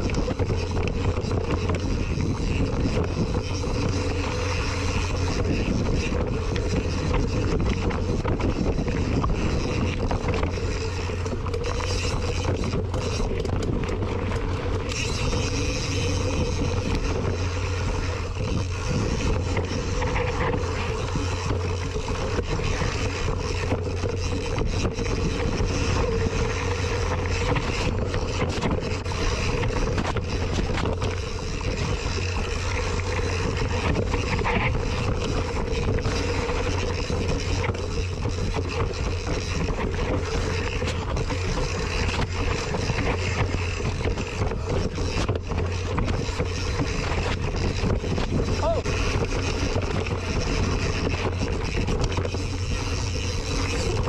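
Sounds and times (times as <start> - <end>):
bike rattling and knocking: 0.0 - 54.0
wind buffeting microphone: 0.0 - 54.0.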